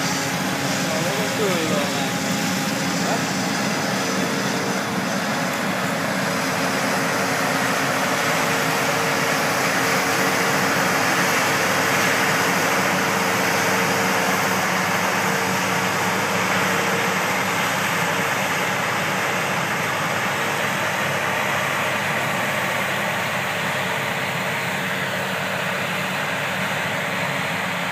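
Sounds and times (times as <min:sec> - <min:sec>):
heavy machinery drone: 0:00.0 - 0:27.9.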